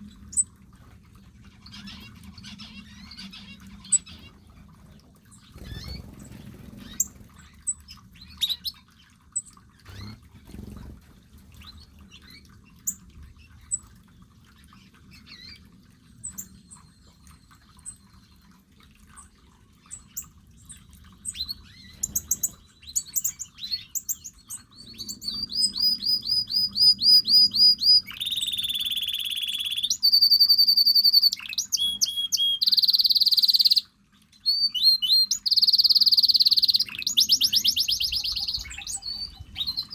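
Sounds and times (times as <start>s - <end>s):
bird song with rapid trills: 0.0s - 18.5s, 19.1s - 39.9s
small birds chirping: 0.0s - 39.9s.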